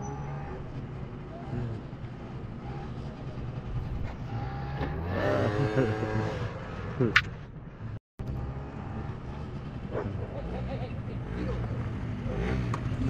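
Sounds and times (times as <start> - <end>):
motorcycle engine revving: 0.0 - 13.0
motorcycle engines running: 0.0 - 13.0.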